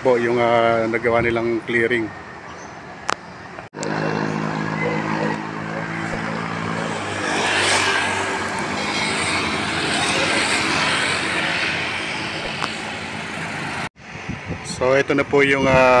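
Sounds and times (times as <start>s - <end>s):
passing traffic rushing: 0.0s - 15.6s
vehicle engine humming: 1.6s - 14.5s.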